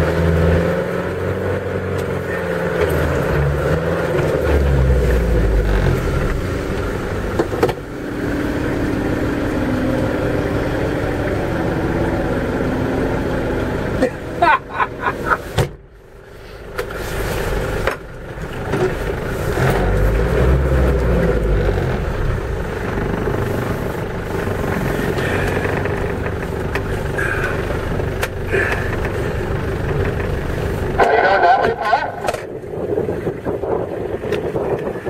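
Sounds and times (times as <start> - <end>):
off-road vehicle engine rumble: 0.0 - 35.0.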